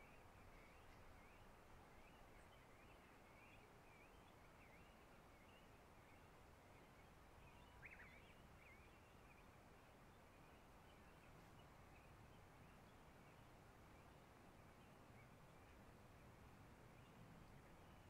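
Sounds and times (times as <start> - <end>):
low background hiss: 0.0 - 18.0.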